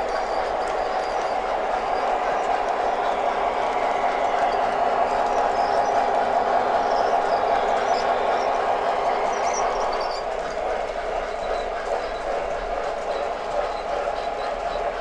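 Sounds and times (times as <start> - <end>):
locomotive running noise: 0.0 - 15.0
model train wheels rolling on track: 0.0 - 15.0.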